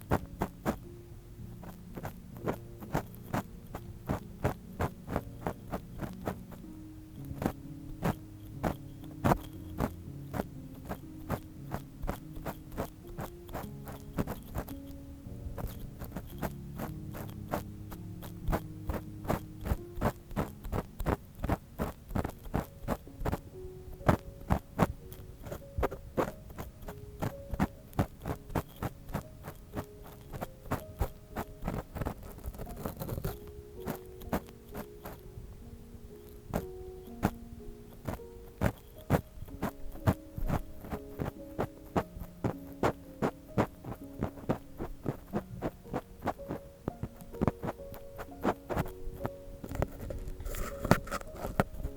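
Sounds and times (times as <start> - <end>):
ear pick scraping and tapping: 0.0 - 35.4, 36.1 - 51.9
soft background music: 0.0 - 51.9.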